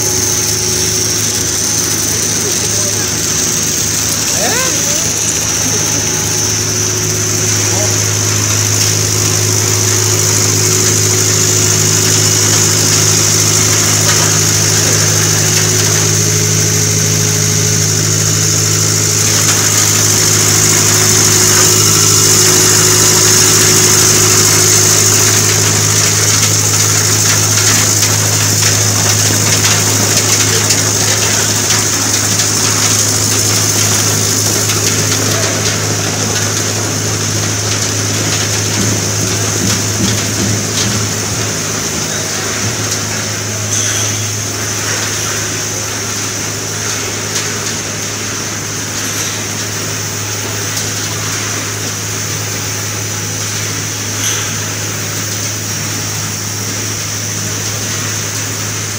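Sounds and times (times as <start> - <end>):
machine motors humming: 0.0 - 58.9.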